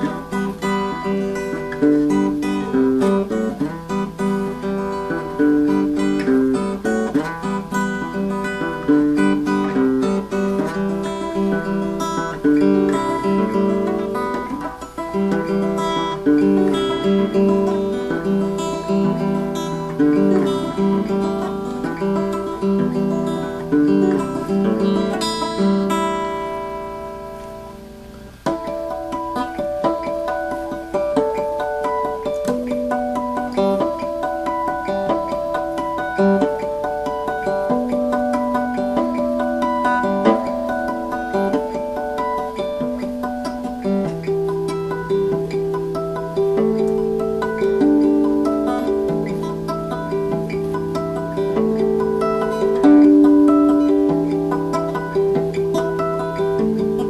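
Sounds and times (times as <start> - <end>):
electric guitar playing chords: 0.0 - 57.0.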